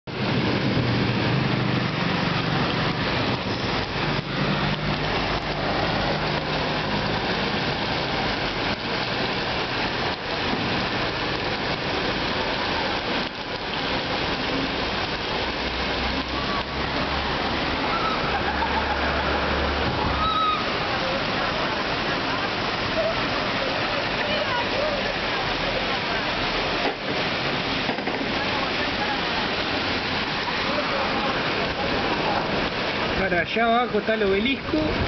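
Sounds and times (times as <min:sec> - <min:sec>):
heavy rain pouring: 0:00.0 - 0:35.0
tyres on wet road: 0:00.0 - 0:35.0
buses and cars running: 0:00.1 - 0:35.0.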